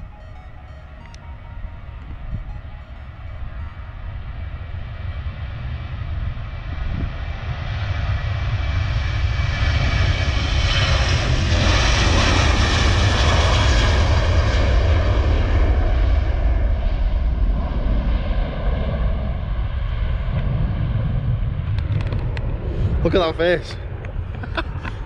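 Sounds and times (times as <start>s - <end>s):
jet airliner taking off: 0.0s - 25.0s.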